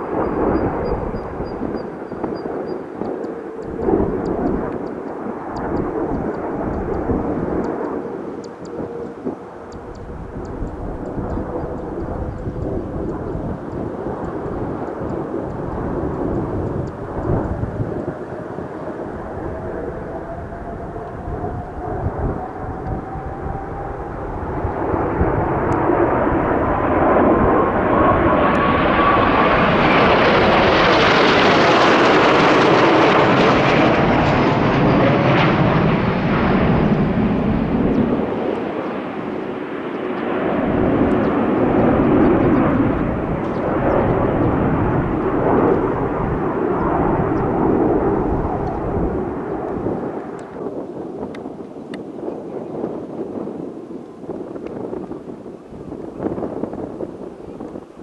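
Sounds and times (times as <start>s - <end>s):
jet aircraft flying past: 0.0s - 50.9s.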